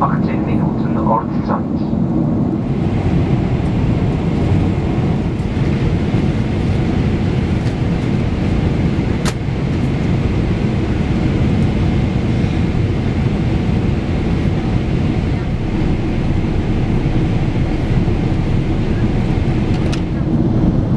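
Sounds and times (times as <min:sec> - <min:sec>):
airliner cabin engine rumble: 0:00.0 - 0:20.9.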